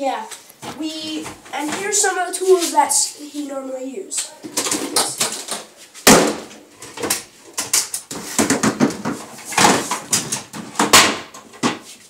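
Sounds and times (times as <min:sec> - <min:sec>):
plastic containers knocking and scraping: 0:00.6 - 0:02.9, 0:04.4 - 0:12.0.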